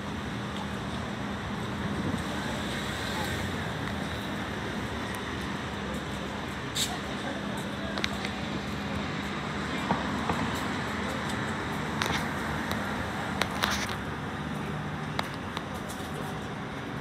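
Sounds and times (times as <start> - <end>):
street traffic hum: 0.0 - 17.0.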